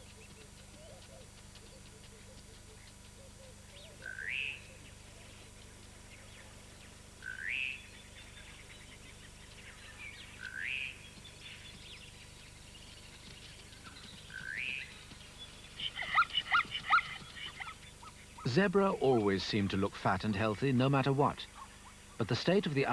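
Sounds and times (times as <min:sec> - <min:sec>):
bird chirps: 0:00.0 - 0:19.3.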